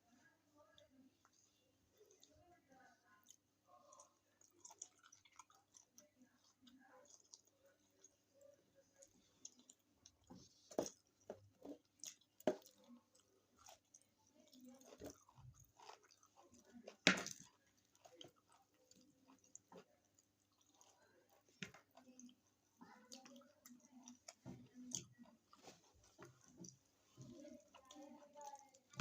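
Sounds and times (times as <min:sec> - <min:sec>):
chewing with crunches: 0:00.8 - 0:29.0.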